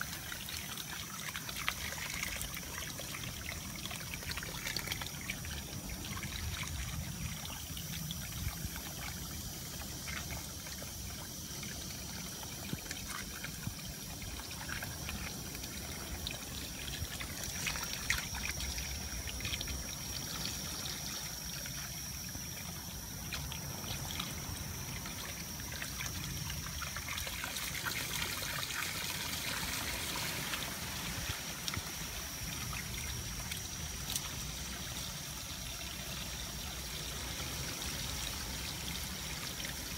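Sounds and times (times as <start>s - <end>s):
hose water pouring on soil: 0.0s - 39.9s.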